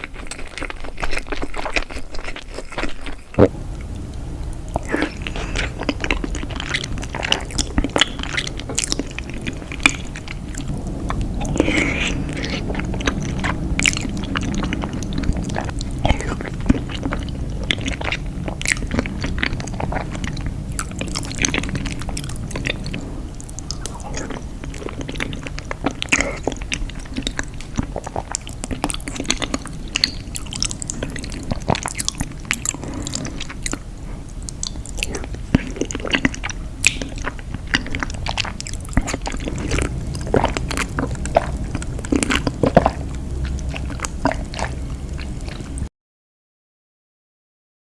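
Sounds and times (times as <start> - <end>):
low background hum: 0.0 - 45.9
person chewing food: 0.0 - 45.9.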